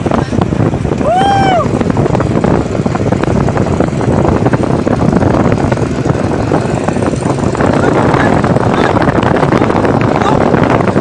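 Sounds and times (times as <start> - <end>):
motorbikes riding at speed: 0.0 - 11.0
wind buffeting microphone: 0.0 - 11.0.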